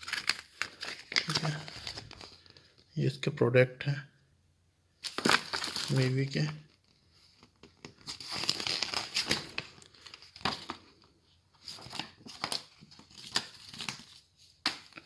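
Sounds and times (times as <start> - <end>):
paper leaflet rustling and crinkling: 0.0 - 2.8, 5.0 - 15.0.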